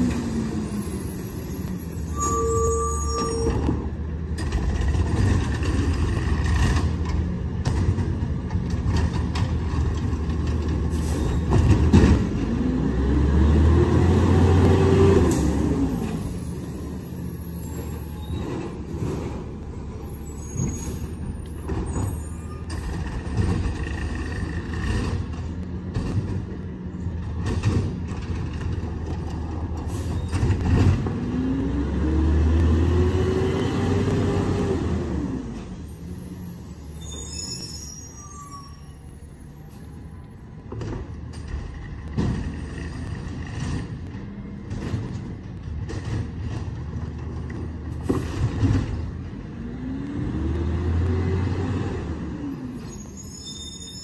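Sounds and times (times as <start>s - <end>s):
garbage truck diesel engine: 0.0s - 54.0s.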